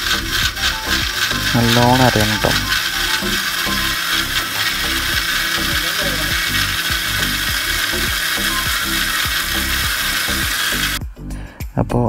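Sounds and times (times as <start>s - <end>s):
mixer grinder motor whirr: 0.0s - 11.0s
steel jar rattling: 0.0s - 11.0s.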